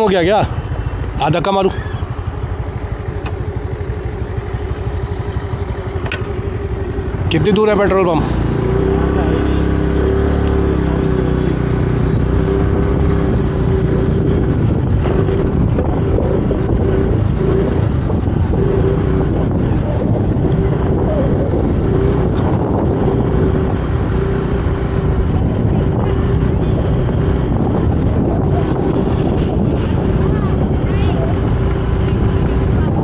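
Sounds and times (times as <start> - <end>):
motorcycle engine running: 0.0 - 33.0
wind buffeting microphone: 2.0 - 33.0.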